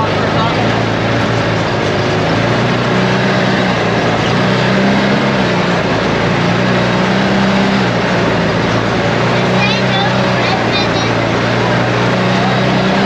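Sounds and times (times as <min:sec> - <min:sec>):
atv engine running: 0:00.0 - 0:13.0
loud rushing noise: 0:00.0 - 0:13.0.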